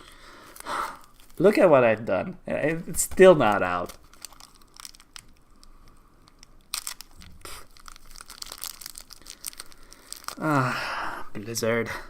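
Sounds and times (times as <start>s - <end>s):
plastic bag crinkling and tearing: 0.1s - 1.7s, 2.6s - 10.7s.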